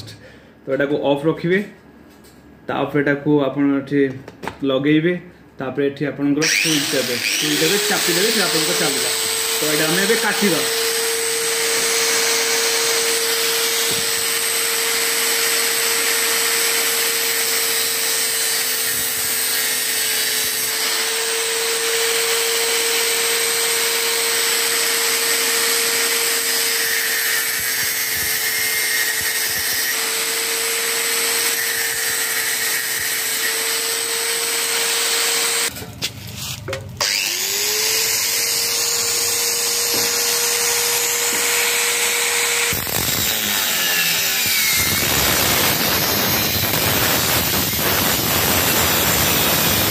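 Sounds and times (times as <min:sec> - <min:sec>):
angle grinder running: 0:06.4 - 0:35.7, 0:37.0 - 0:49.9.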